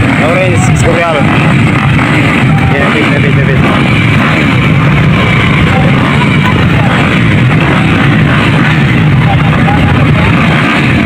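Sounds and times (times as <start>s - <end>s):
dirt bike engines revving together: 0.0s - 11.0s.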